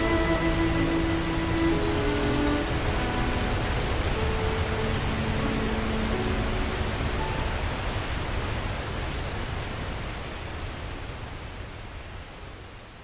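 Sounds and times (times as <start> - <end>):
waterfall roaring: 0.0 - 12.8.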